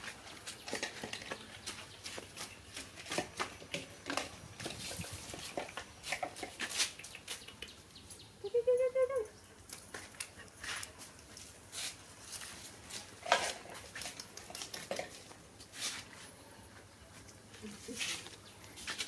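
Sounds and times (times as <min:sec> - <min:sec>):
light clicks and scuffs: 0:00.0 - 0:08.2, 0:09.6 - 0:19.0.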